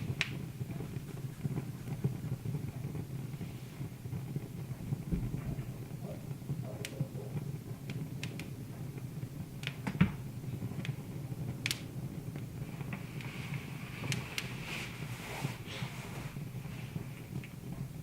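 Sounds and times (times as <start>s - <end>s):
low steady hum: 0.0s - 18.0s
wood fire crackling: 0.0s - 18.0s.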